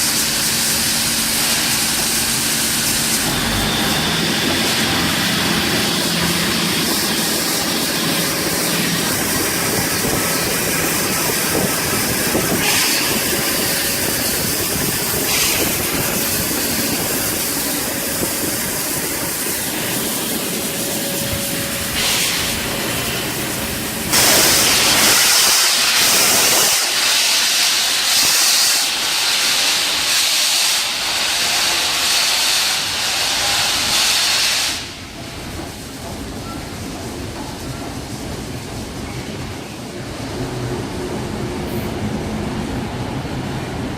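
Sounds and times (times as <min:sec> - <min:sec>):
harsh hiss of escaping steam: 0:00.0 - 0:36.0
steam locomotive hissing: 0:00.0 - 0:43.9.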